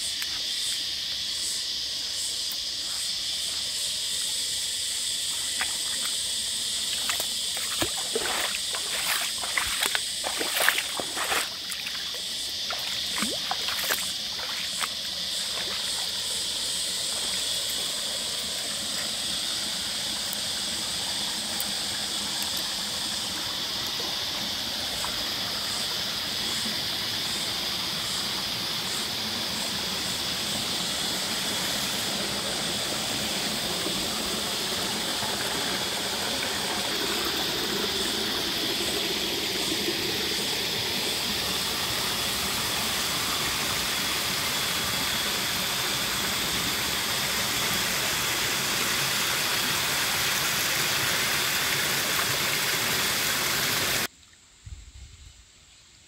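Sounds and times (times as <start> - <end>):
creek water flowing and splashing: 2.6 - 54.3.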